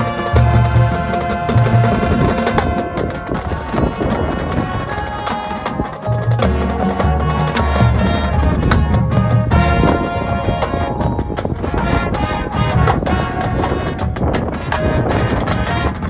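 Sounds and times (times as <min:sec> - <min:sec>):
marching band wind notes: 0:00.0 - 0:16.0
marching drums: 0:00.0 - 0:16.0.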